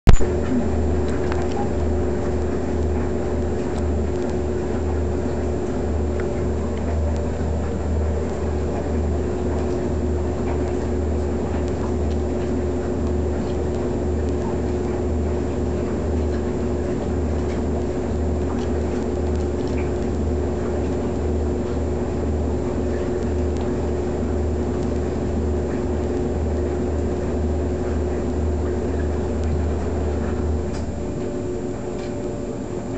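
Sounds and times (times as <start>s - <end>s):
pulsing low machine hum: 0.1s - 32.9s.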